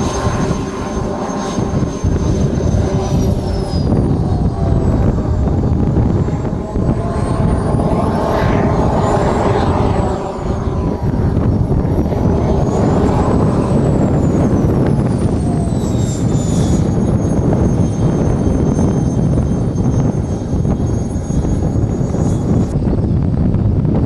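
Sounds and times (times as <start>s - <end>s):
model jet turbine engine: 0.0s - 24.0s.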